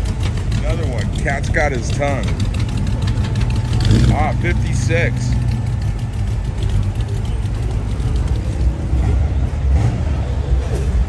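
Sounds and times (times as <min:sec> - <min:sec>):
car engine rumbling past: 0:00.0 - 0:11.0.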